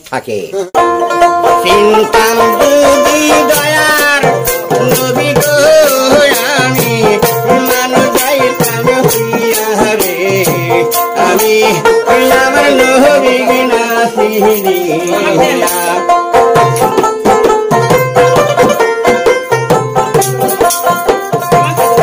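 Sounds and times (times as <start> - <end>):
plucked string instrument: 0.7 - 22.0
sharp percussion strokes: 0.8 - 22.0
man singing: 1.4 - 19.4, 20.0 - 22.0.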